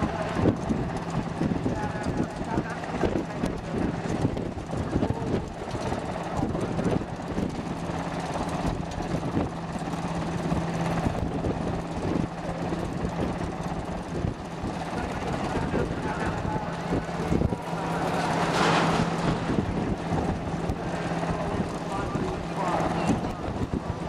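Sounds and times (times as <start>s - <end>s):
constant low hum: 0.0s - 24.0s
helicopter hovering: 0.0s - 24.0s
wind buffeting microphone: 0.0s - 24.0s.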